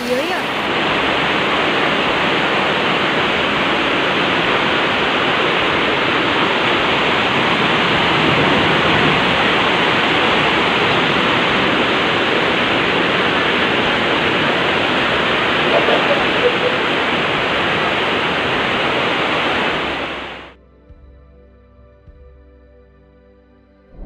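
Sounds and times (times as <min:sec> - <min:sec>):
mudflow rushing: 0:00.0 - 0:20.5.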